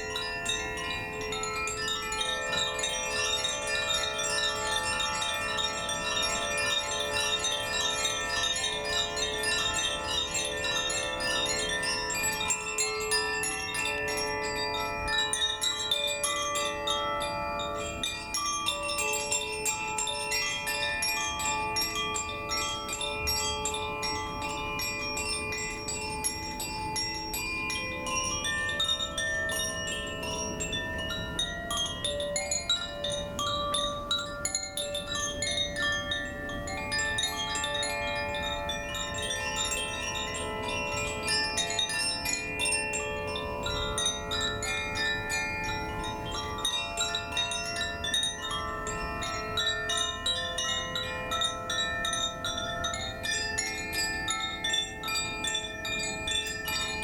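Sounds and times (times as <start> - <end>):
chimes ringing: 0.0 - 57.0.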